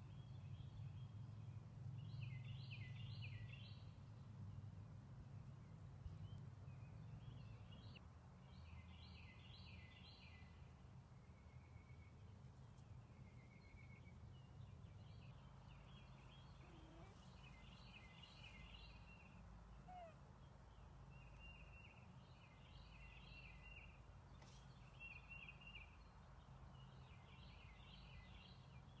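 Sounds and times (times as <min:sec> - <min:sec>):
songbird chirping: 0:00.0 - 0:04.4, 0:05.3 - 0:29.0.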